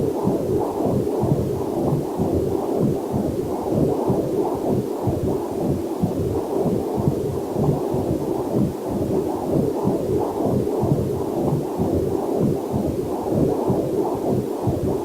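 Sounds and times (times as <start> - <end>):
heartbeat on doppler monitor: 0.0 - 15.0.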